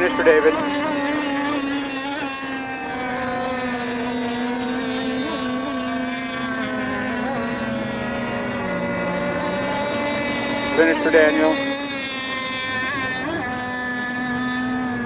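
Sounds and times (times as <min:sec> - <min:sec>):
lower engine note: 0:00.0 - 0:15.0
racing boat engine high drone: 0:00.0 - 0:15.0.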